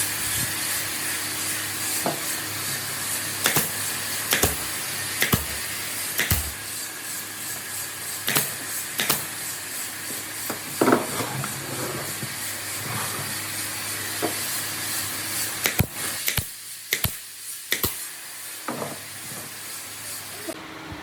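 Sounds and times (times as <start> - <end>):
steady hiss: 0.0 - 10.9, 12.1 - 20.6.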